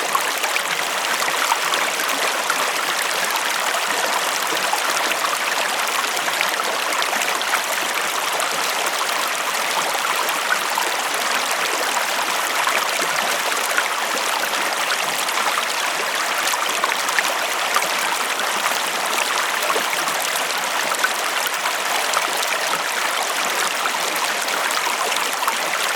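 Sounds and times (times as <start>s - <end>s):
river water flowing over stones: 0.0s - 25.9s.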